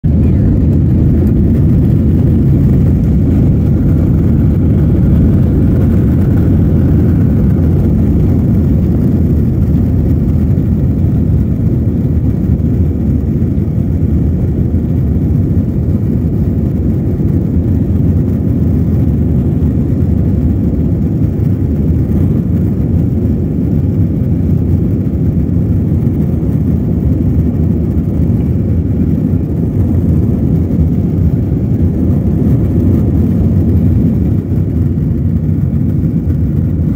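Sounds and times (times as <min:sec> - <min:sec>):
jet engines rumbling in cabin: 0:00.0 - 0:36.9.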